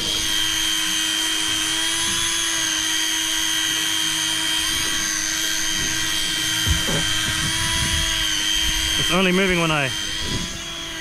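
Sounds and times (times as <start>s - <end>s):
fishing reel motor whining: 0.0s - 11.0s.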